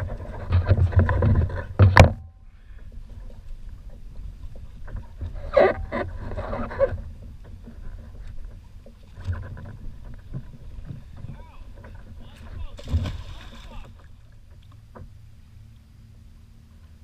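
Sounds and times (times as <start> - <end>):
wind rumble on microphone: 0.0 - 14.4
rustles and knocks: 0.0 - 15.2
water moving around kayak: 0.0 - 17.0.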